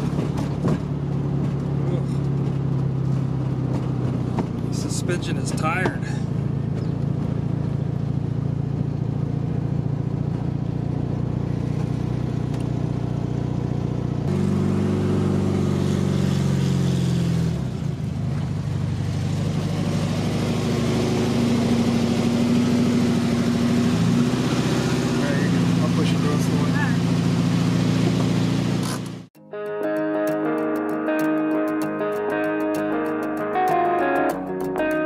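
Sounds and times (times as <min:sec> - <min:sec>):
car engine running from inside: 0:00.0 - 0:29.3.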